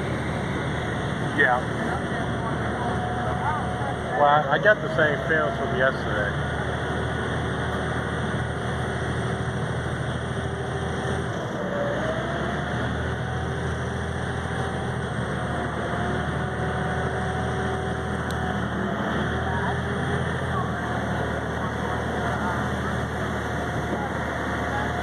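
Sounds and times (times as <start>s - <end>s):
ferry engines droning: 0.0s - 25.0s.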